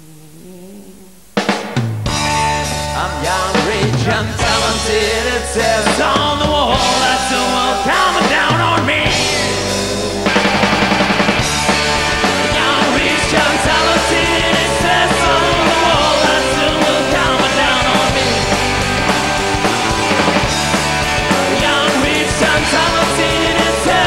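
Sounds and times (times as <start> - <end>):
loud live rock band: 1.4 - 24.0.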